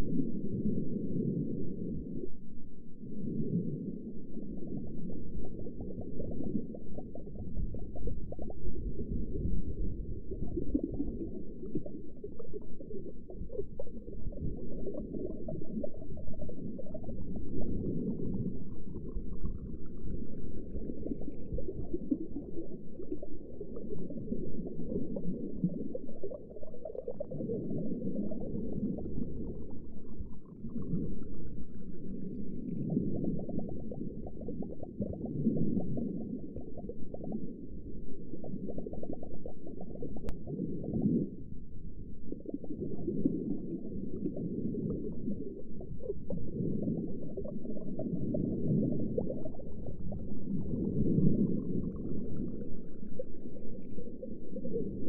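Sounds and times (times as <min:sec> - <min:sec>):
low underwater rumble: 0:00.0 - 0:55.0
water bubbling and gurgling: 0:00.0 - 0:55.0.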